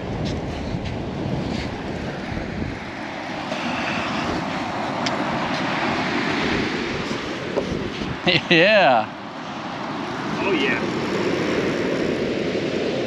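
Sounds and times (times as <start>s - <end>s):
ocean surf: 0.0s - 13.0s
wind on microphone: 0.0s - 13.0s.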